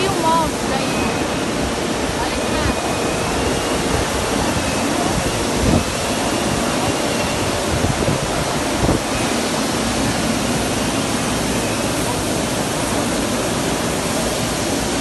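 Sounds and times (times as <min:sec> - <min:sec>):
factory machinery and ventilation: 0:00.0 - 0:15.0.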